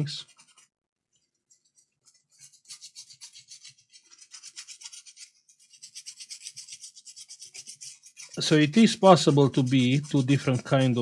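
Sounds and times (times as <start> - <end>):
brush scrubbing wet board: 0.1 - 0.7, 1.5 - 11.0.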